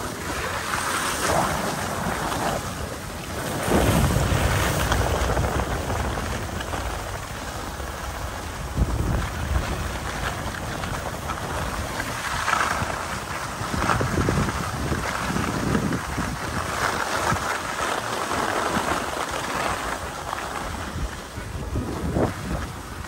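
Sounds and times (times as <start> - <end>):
skis scraping over snow: 0.0 - 23.0
wind on microphone: 0.0 - 23.0.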